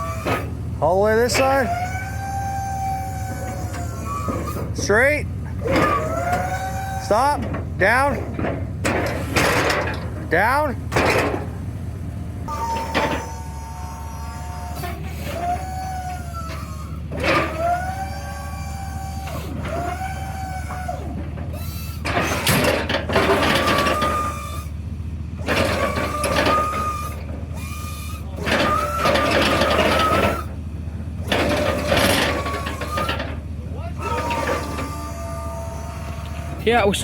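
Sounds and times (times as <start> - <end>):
hydraulic pump whine: 0.0 - 37.0
truck engine idling: 0.0 - 37.0.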